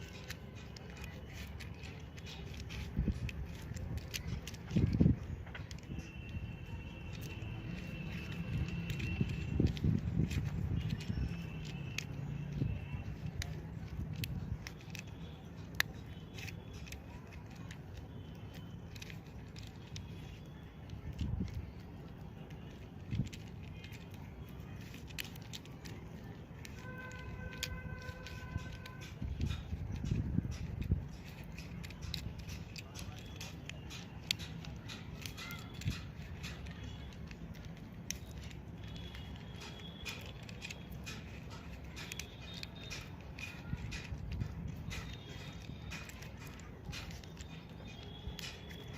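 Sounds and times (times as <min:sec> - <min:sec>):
puzzle cube plastic clicks: 0:00.0 - 0:48.9.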